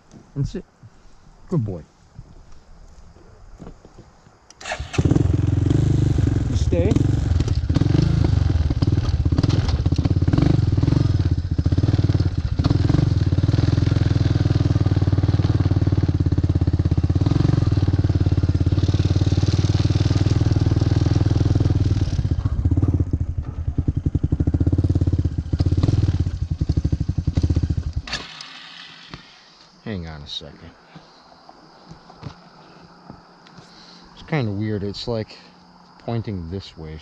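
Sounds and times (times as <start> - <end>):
atv engine pulsing drone: 4.5 - 37.0.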